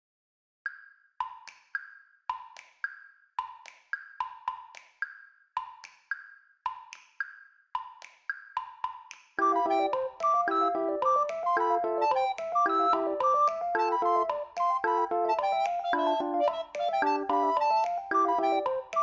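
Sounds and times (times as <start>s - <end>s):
wood block tick-tock pattern: 0.7s - 19.0s.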